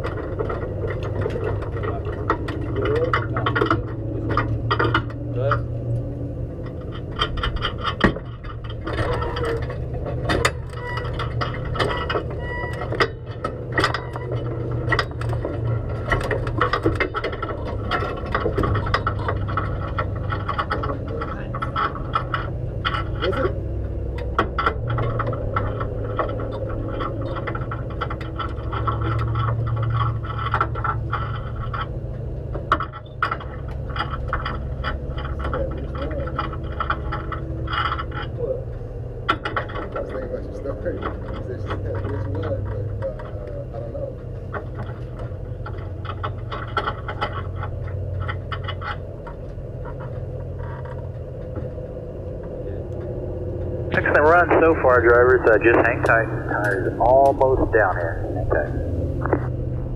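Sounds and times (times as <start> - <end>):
clicks and rattles in cabin: 0.0 - 59.6
race car engine idling: 0.0 - 59.9.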